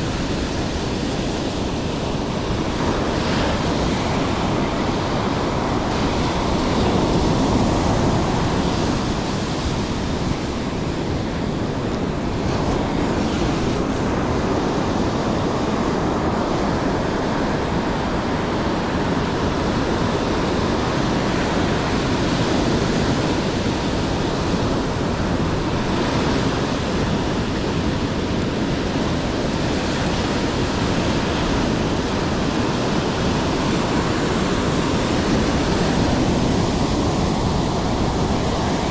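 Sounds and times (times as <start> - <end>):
surf rushing: 0.0 - 38.9
wind buffeting microphone: 0.0 - 38.9.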